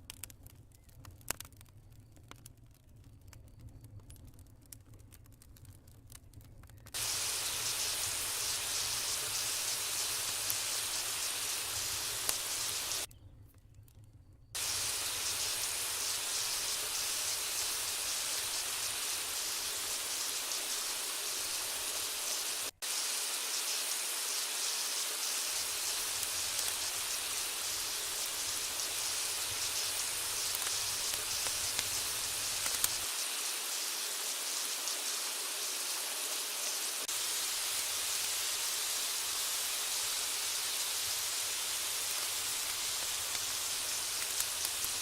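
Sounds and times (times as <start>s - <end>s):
faint crackles: 0.0s - 22.8s, 24.6s - 33.1s, 37.0s - 45.0s
food sizzling in hot oil: 6.9s - 13.1s, 14.6s - 45.0s.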